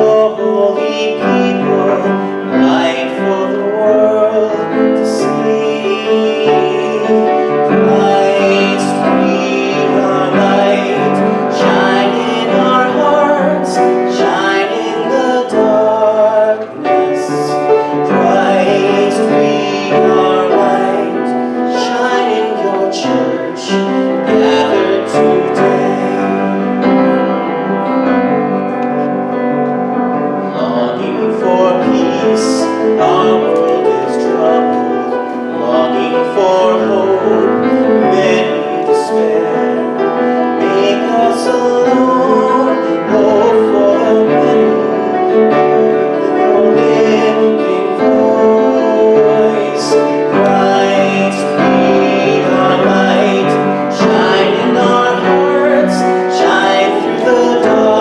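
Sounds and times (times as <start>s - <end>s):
instrumental accompaniment: 0.0s - 58.0s
person singing a hymn: 0.0s - 58.0s.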